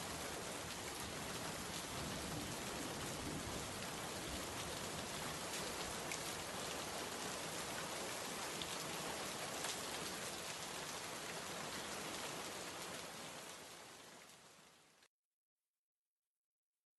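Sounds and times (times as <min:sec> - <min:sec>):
steady rain falling: 0:00.0 - 0:15.1.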